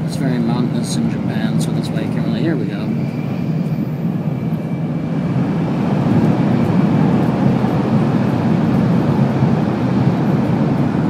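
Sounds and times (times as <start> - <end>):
train running at speed from inside: 0.0 - 11.0.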